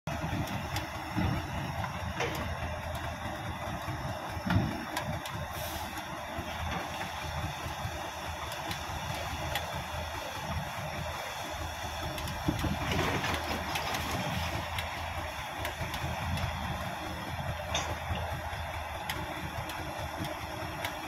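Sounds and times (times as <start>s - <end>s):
bulldozer diesel engine running: 0.1s - 21.0s
dump truck working: 0.1s - 21.0s.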